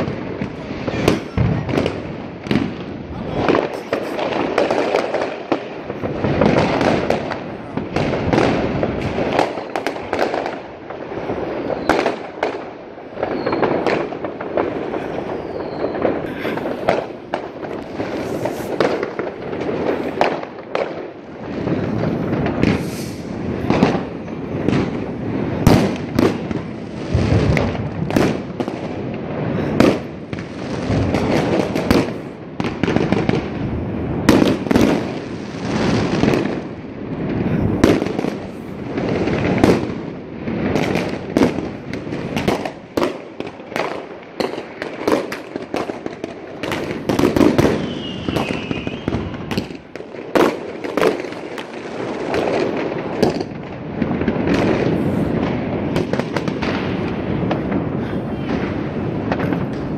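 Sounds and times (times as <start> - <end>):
distant fireworks bangs: 0.0 - 59.9
fireworks crackling: 0.0 - 59.9
sharp loud fireworks bangs: 0.0 - 59.9.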